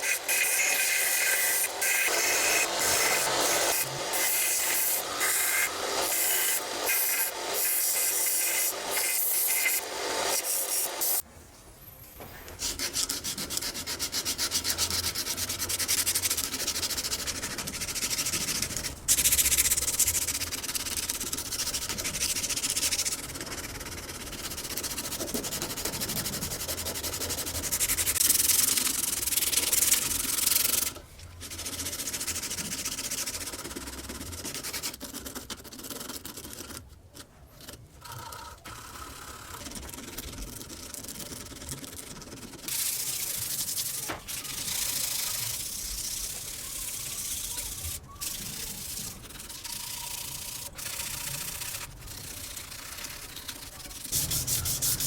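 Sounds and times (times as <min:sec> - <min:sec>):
sandpaper rubbing: 0:00.0 - 0:11.2, 0:12.6 - 0:36.8, 0:39.0 - 0:55.0.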